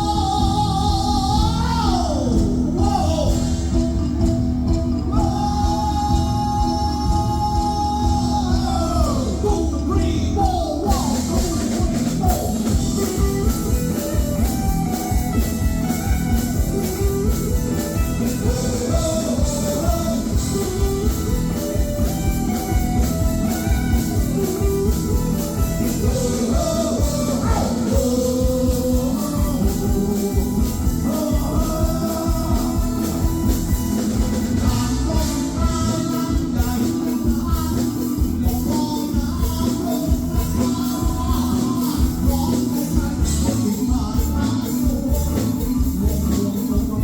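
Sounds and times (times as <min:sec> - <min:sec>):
band with driving beat: 0:00.0 - 0:47.0
person singing: 0:00.0 - 0:47.0.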